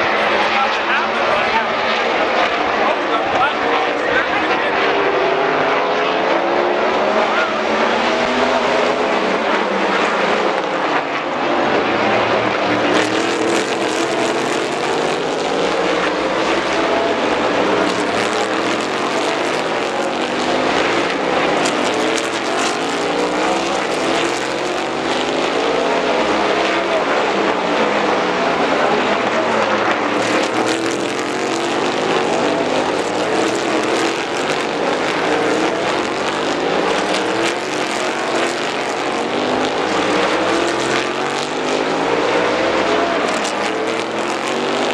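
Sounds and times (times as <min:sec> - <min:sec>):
race car engines passing: 0:00.0 - 0:44.9.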